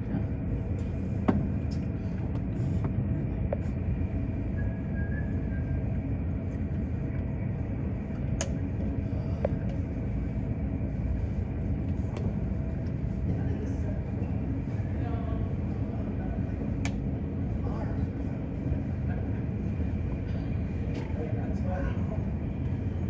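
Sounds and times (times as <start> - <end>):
airport ramp rumble: 0.0 - 23.0
faint steady whine: 0.0 - 23.0.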